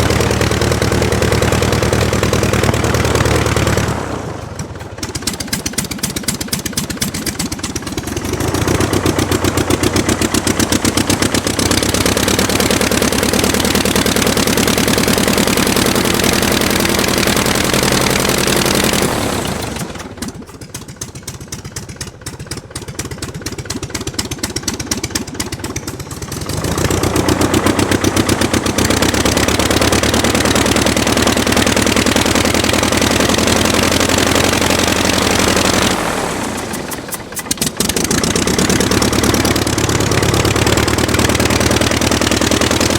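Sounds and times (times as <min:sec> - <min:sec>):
aircraft engine running: 0:00.0 - 0:42.9.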